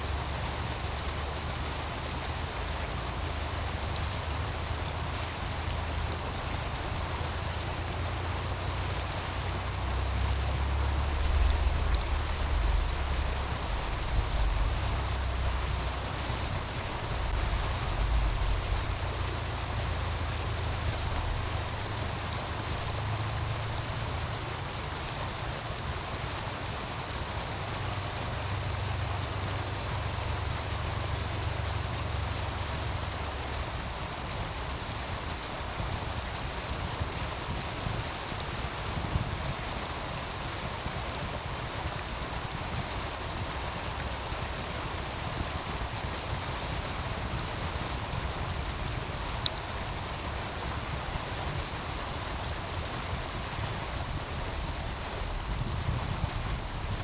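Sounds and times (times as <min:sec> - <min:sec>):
stream rushing: 0:00.0 - 0:57.0
wind rumble on microphone: 0:00.0 - 0:57.0
wood fire crackling and popping: 0:00.0 - 0:57.0.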